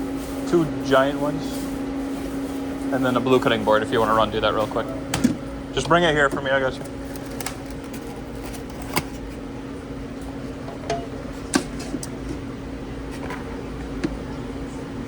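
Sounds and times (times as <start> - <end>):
ventilation humming: 0.0 - 15.0.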